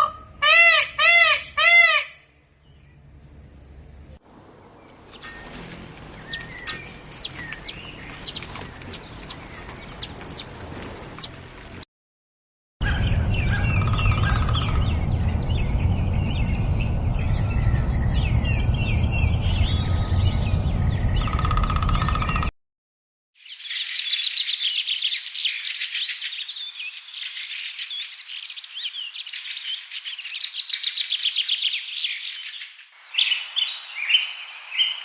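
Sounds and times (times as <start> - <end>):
bird chirps and trills: 4.4 - 11.8, 12.8 - 22.5, 23.4 - 35.0.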